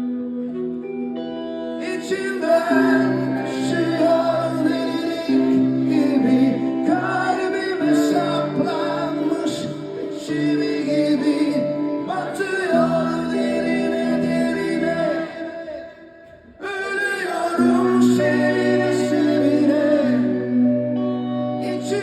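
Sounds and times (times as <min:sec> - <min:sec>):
people singing: 0:01.8 - 0:22.0.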